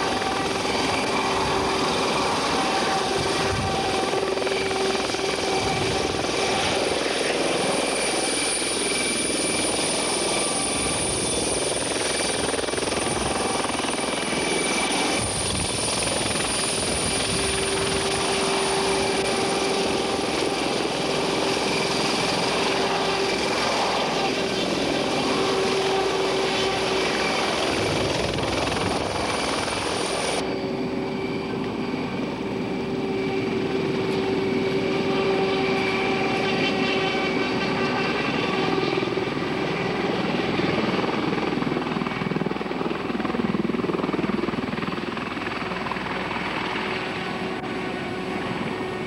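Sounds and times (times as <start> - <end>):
helicopter rotor beating: 0.0 - 49.0
helicopter whine: 0.0 - 49.0.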